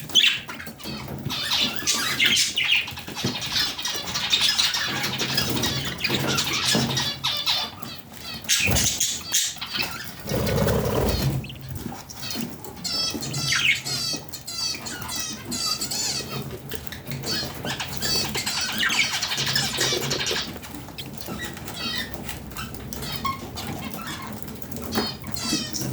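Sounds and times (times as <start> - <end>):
budgerigars chattering: 0.1 - 24.3.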